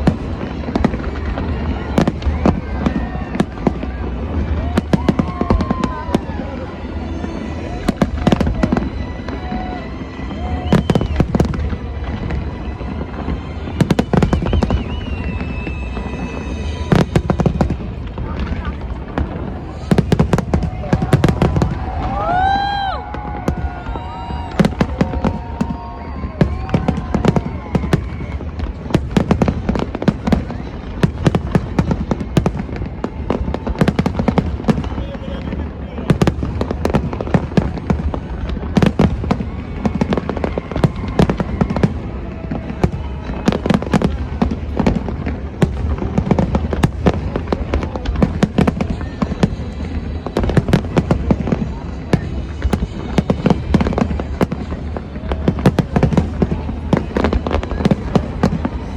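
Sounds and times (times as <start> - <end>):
firework whistling wail: 0.0 - 58.9
fireworks bangs and crackles: 0.0 - 58.9.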